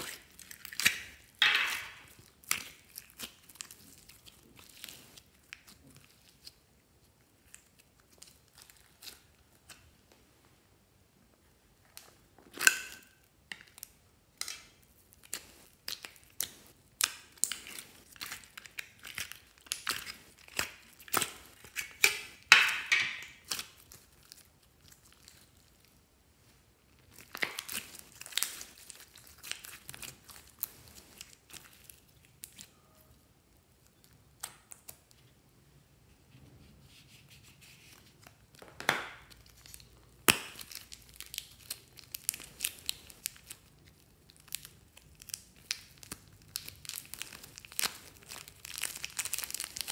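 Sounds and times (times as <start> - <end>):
slime crackling and squeezing: 0.0 - 9.8, 14.6 - 26.0, 26.8 - 35.2, 37.6 - 49.9.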